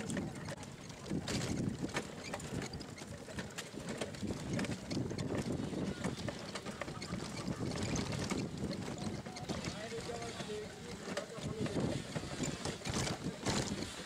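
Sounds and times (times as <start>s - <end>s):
vehicle rattling and knocking: 0.0s - 14.0s.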